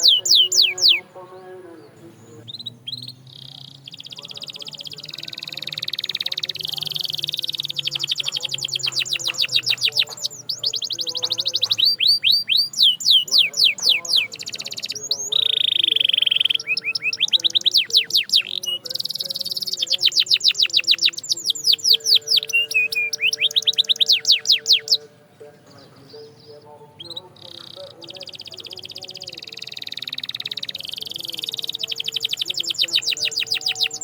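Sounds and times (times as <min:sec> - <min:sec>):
canary trilling: 0:00.0 - 0:34.0.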